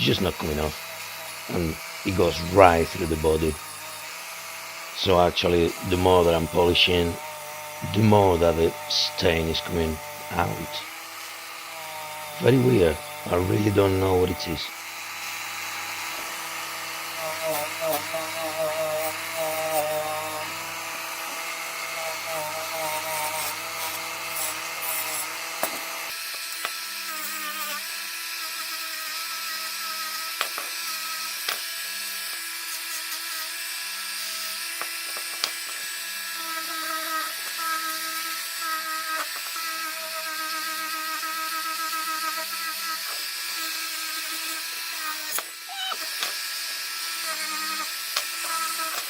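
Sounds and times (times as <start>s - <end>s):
rotary tool whining: 0.0s - 49.0s.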